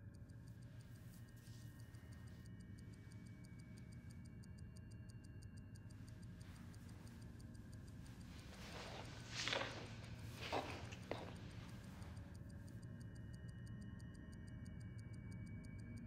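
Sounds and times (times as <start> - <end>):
rapid faint ticking: 0.1 - 14.1.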